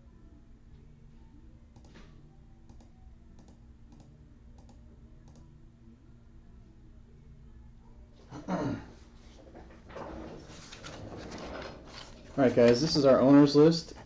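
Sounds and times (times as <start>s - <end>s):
faint steady low hum: 0.0s - 14.0s.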